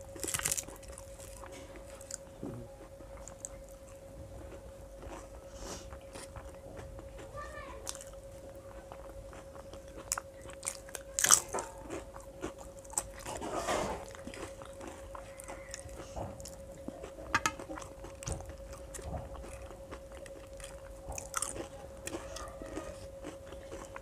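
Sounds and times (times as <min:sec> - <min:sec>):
chewing and crunching: 0:00.0 - 0:24.0.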